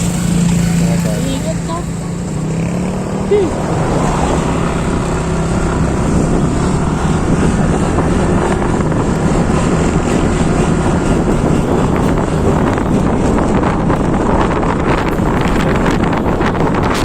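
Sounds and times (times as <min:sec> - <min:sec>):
motorcycle engine and road noise: 0:00.0 - 0:17.0
wind on microphone: 0:00.0 - 0:17.0.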